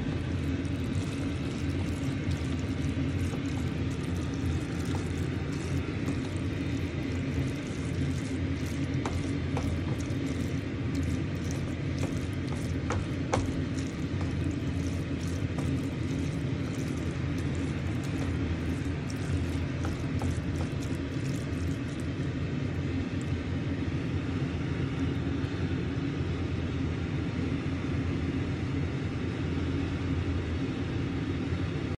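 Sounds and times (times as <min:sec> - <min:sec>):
low mechanical rumble: 0:00.0 - 0:32.0.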